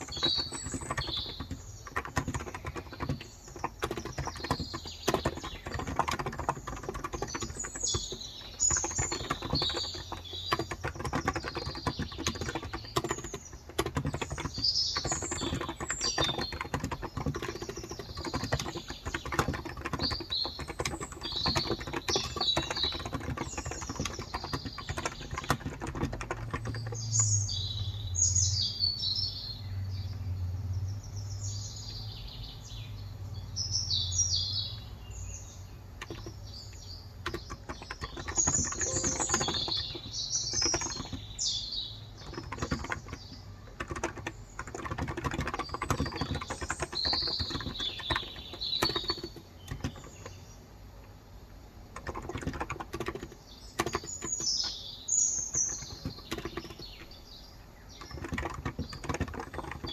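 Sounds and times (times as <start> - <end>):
fast keyboard typing: 0.0 - 27.8, 35.8 - 50.5, 51.8 - 59.9
small birds chirping: 0.0 - 59.9.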